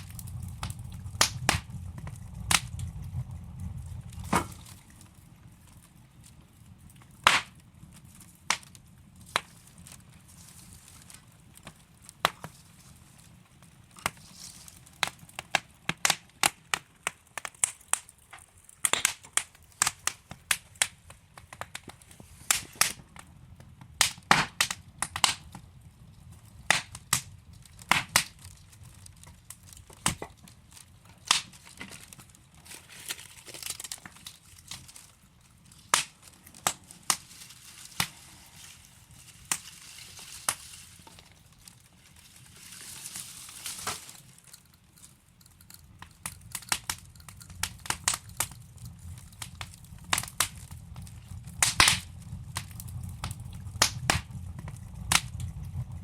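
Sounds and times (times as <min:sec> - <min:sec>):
hiss of flames: 0:00.0 - 0:45.1, 0:45.8 - 0:56.0
fire crackling and popping: 0:00.0 - 0:56.0.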